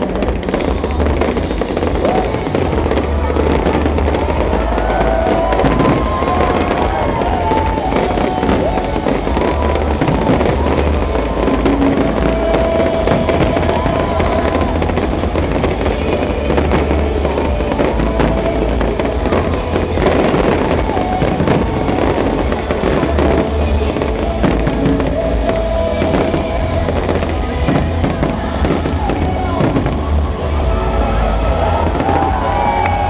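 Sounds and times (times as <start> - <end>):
fireworks bursting: 0.0 - 33.0.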